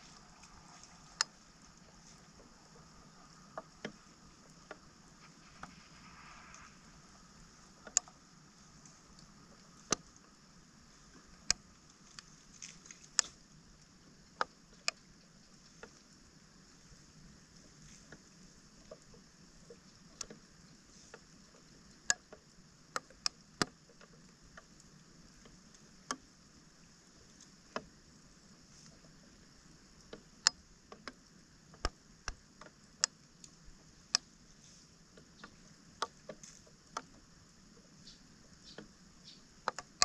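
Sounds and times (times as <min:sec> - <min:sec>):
faint steady hiss: 0:00.0 - 0:40.0.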